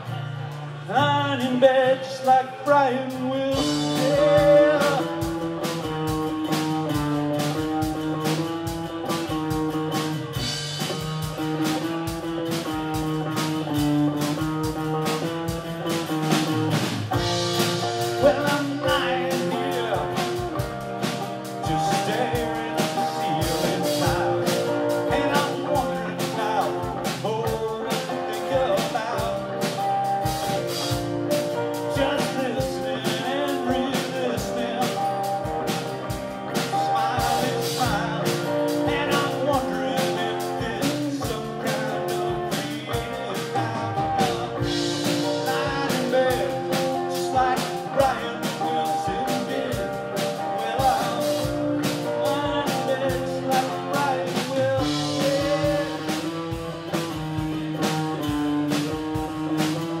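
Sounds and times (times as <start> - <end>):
live rock band: 0.0 - 60.0.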